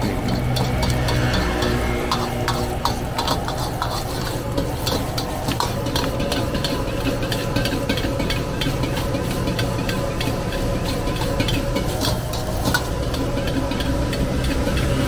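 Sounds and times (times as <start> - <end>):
food sizzling: 0.0 - 15.0
gas burner rushing: 0.0 - 15.0
metal ladle scraping wok: 0.0 - 15.0.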